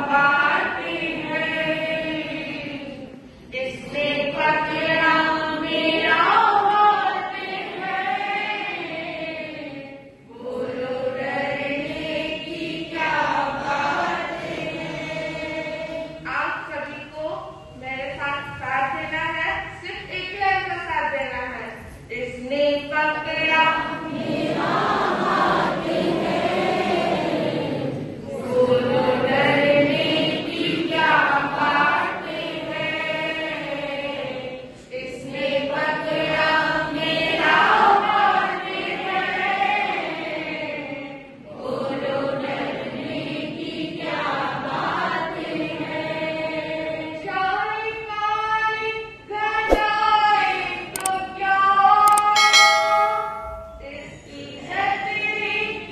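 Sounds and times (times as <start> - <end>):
women singing devotional song: 0.0 - 17.3, 22.2 - 52.4, 53.7 - 55.9.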